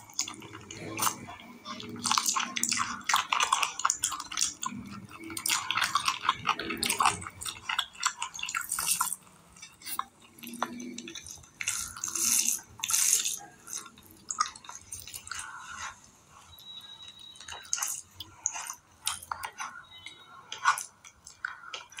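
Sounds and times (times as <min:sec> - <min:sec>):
fingers squelching food: 0:00.0 - 0:22.0.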